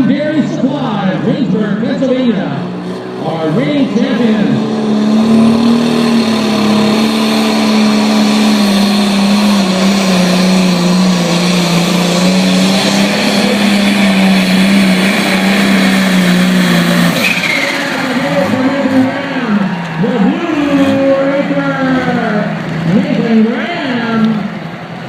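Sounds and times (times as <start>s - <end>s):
high turbo whine: 0.0s - 25.0s
tractor diesel engine under load: 0.0s - 25.0s.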